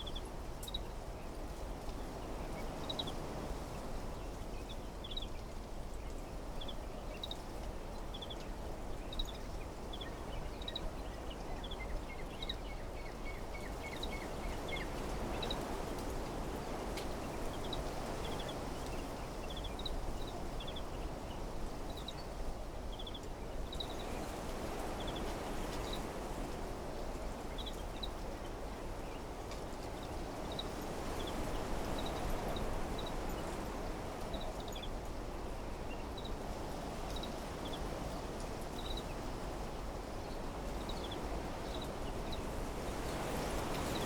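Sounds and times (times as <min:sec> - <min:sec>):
wind blowing through trees: 0:00.0 - 0:44.0.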